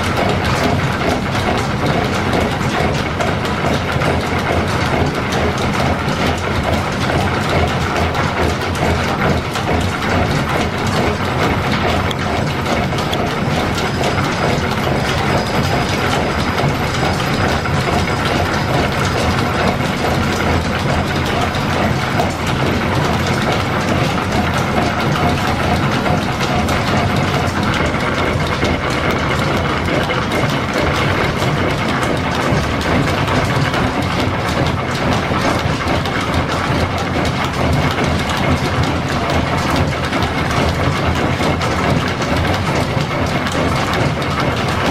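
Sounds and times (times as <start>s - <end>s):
machine tool clattering under a cut: 0.0s - 44.9s
quick regular clicks: 0.0s - 44.9s.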